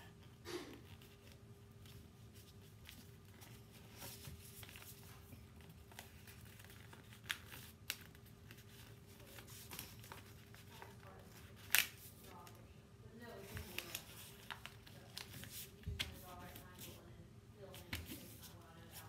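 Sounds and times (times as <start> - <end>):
paper rustling and creasing: 0.8 - 12.5, 13.4 - 17.0.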